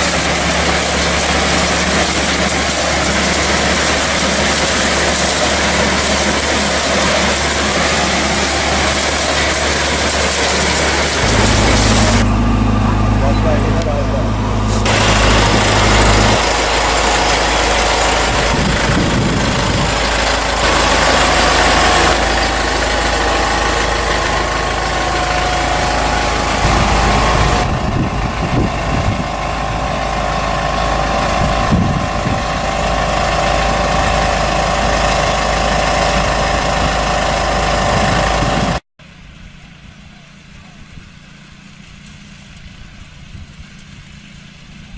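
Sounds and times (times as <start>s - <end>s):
constant whine: 0.0s - 38.8s
harvesting machine engine drone: 0.0s - 38.8s.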